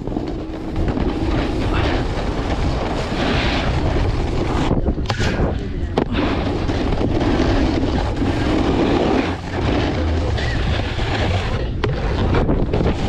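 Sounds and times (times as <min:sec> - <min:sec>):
snowboard scraping over snow: 0:00.0 - 0:13.0.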